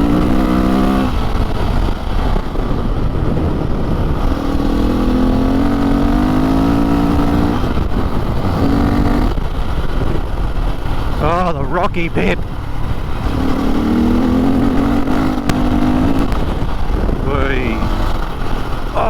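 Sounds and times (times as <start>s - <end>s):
motorcycle engine running: 0.0s - 19.0s
steady low rumble: 0.0s - 19.0s.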